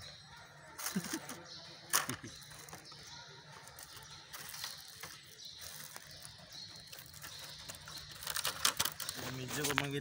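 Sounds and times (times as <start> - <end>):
plastic parts clicking and rattling: 0.8 - 10.0.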